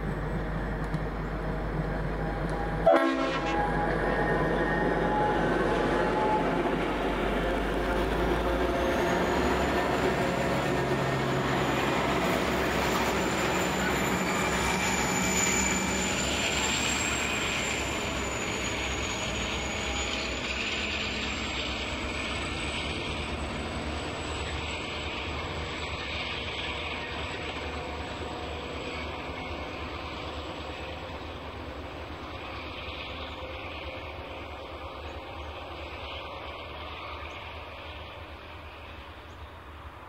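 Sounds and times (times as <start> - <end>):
locomotive engine rumble: 0.0 - 40.0.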